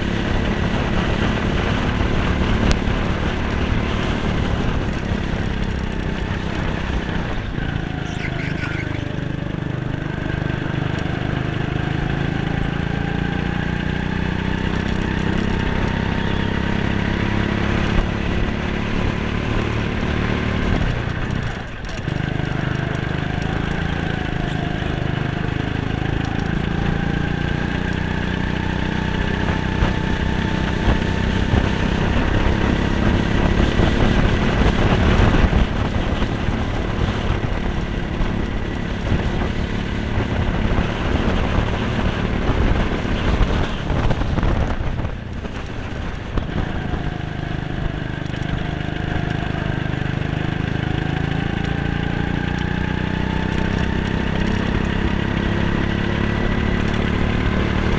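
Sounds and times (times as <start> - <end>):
go-kart engine revving: 0.0 - 57.9.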